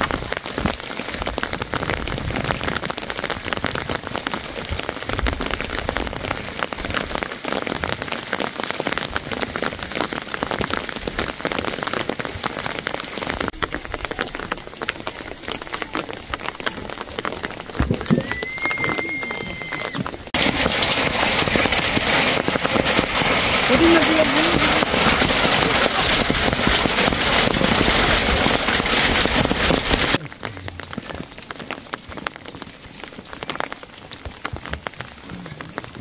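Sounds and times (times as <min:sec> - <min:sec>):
rain pattering on roofs: 0:00.0 - 0:36.0.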